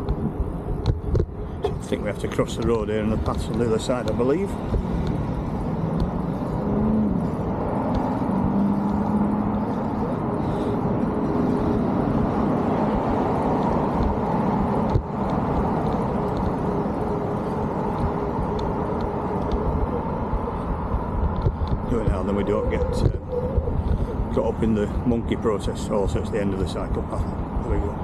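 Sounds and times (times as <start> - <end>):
engine-like hum: 0.0 - 28.0
road traffic rushing: 0.0 - 28.0
wind: 0.0 - 28.0.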